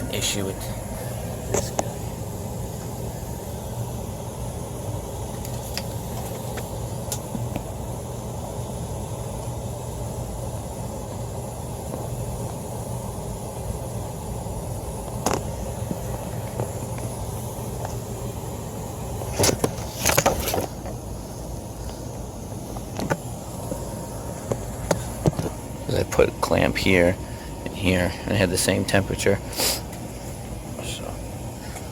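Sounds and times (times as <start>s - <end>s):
low machinery hum and rumble: 0.0s - 31.9s.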